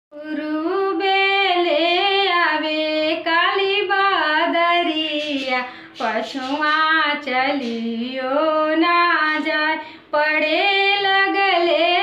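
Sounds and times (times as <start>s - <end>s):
woman singing unaccompanied: 0.1s - 12.0s.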